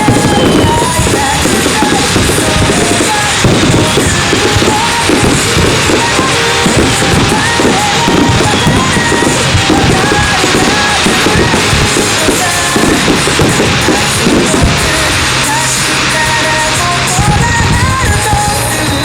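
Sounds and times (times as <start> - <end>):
loud pop-rock music: 0.0 - 19.0.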